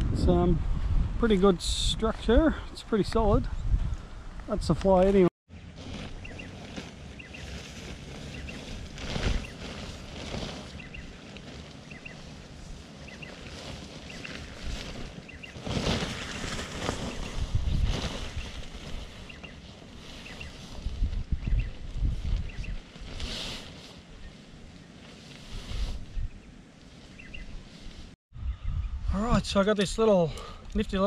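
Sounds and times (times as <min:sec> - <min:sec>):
wind gusting across microphone: 0:00.0 - 0:31.0.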